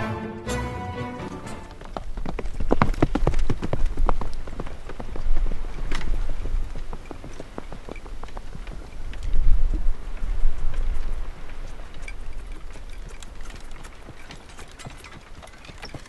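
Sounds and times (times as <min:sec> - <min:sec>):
horse hooves clopping on dirt: 0:00.7 - 0:16.0.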